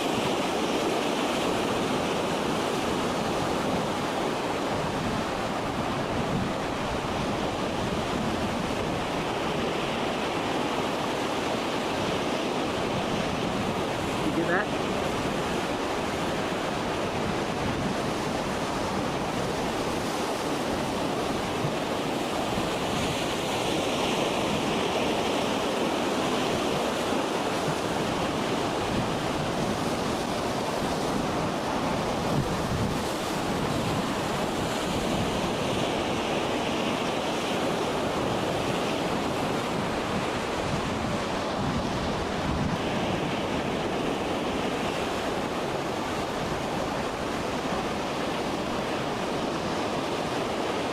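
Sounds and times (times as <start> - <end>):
storm wind: 0.0 - 50.9
wind buffeting microphone: 0.0 - 50.9.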